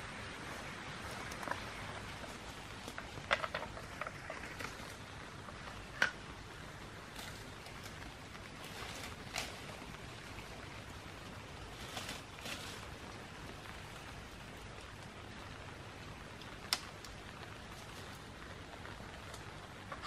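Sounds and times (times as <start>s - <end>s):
leafy branches rustling: 0.0s - 20.0s
steady soft hiss: 0.0s - 20.0s.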